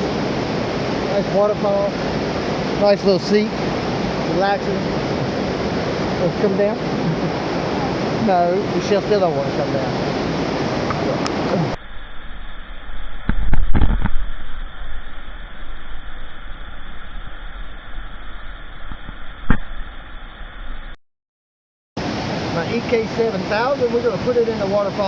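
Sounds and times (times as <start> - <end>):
waterfall and river water rushing: 0.0 - 20.1, 22.0 - 25.0.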